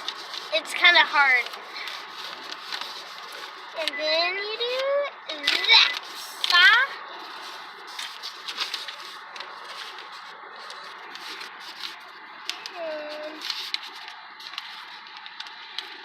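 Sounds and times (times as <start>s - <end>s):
paper rustling and crinkling: 0.0s - 3.9s, 4.6s - 16.0s.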